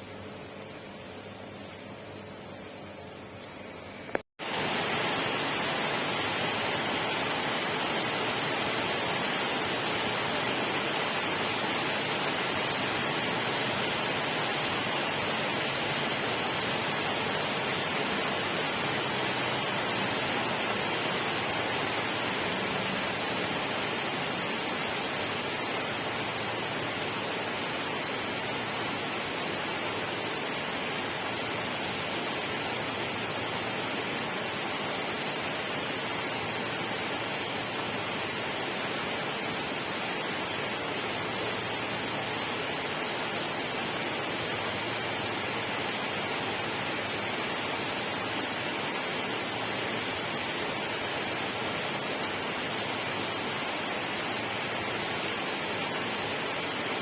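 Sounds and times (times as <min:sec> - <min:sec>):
rushing water: 0:04.4 - 0:57.0.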